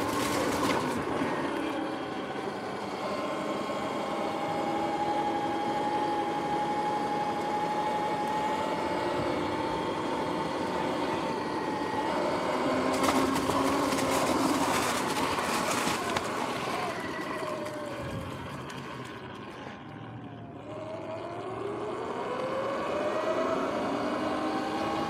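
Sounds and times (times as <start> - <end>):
electric motor whining: 0.0 - 25.0
wind and tyre noise: 0.0 - 25.0.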